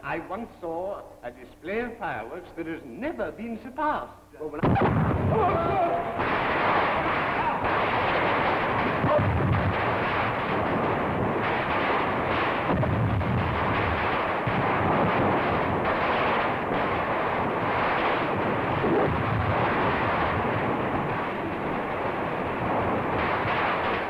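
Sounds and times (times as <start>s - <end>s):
firecrackers banging and crackling: 4.5s - 24.0s.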